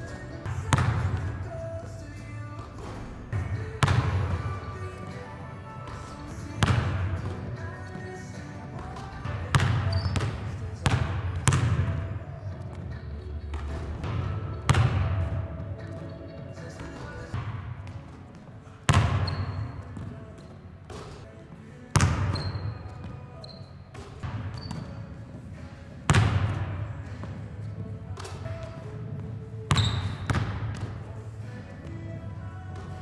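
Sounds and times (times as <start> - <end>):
basketball bouncing on hardwood floor: 0.4 - 1.6, 2.6 - 5.2, 5.9 - 21.2, 22.0 - 23.2, 23.9 - 25.2, 26.1 - 31.2.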